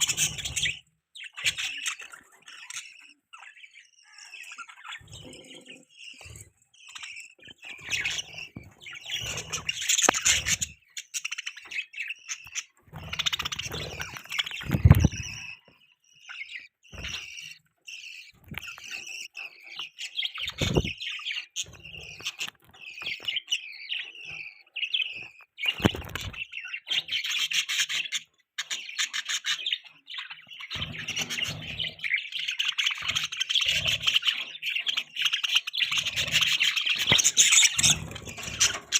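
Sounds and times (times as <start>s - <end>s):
budgies chirping and chattering: 0.0s - 38.9s.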